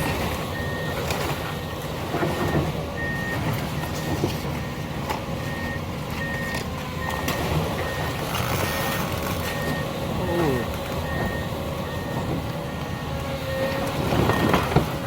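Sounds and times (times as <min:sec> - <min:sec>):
diesel engine running: 0:00.0 - 0:15.0
backup alarm beeping: 0:00.1 - 0:01.8, 0:03.0 - 0:14.8.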